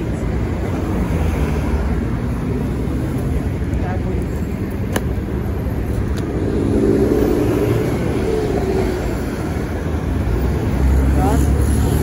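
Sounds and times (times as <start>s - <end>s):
tram rumble: 0.0s - 12.0s.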